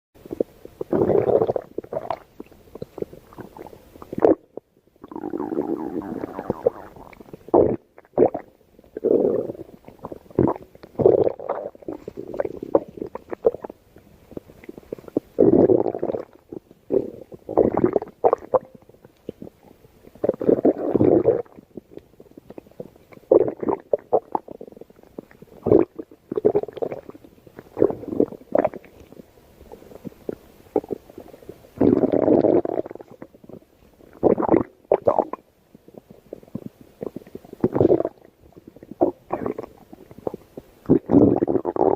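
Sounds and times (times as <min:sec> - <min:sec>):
stomach growling: 0:00.3 - 0:41.9.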